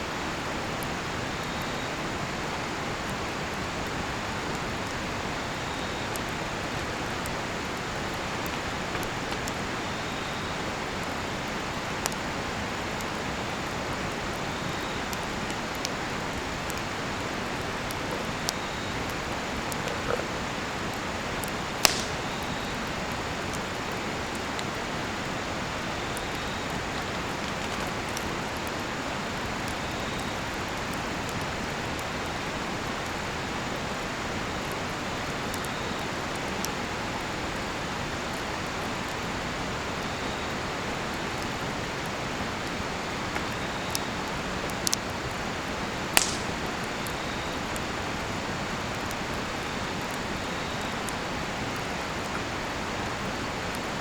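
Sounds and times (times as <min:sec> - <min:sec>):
faint cricket chirps: 0:00.1 - 0:54.0
campfire ticking and popping: 0:00.2 - 0:54.0.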